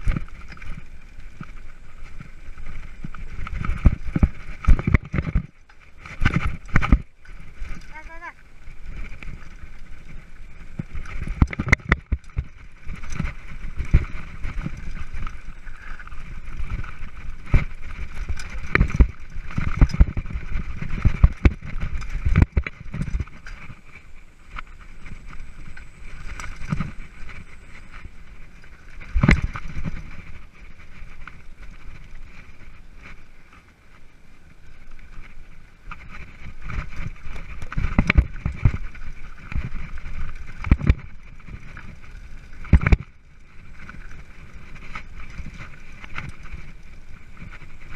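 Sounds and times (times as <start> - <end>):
bike knocking and rattling: 0.0 - 47.9
bike tyres rolling on dirt: 0.0 - 47.9.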